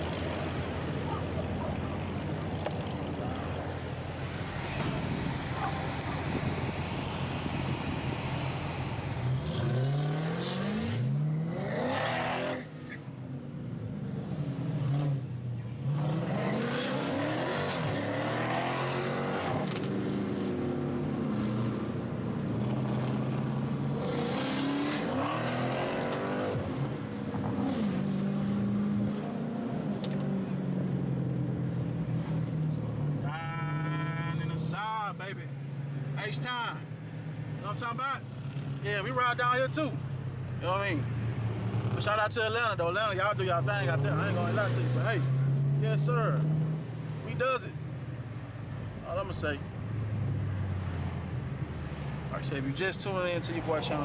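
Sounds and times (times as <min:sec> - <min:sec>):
car engines accelerating: 0:00.0 - 0:54.0
exhaust and tyre noise: 0:00.0 - 0:54.0.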